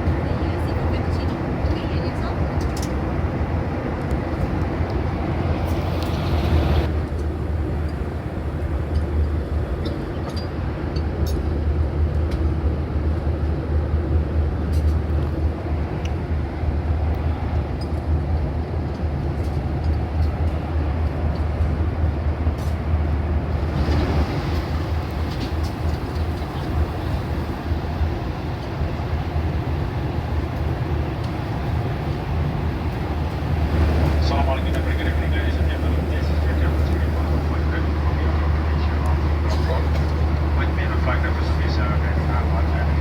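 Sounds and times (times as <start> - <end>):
airplane cabin drone: 0.0 - 43.0.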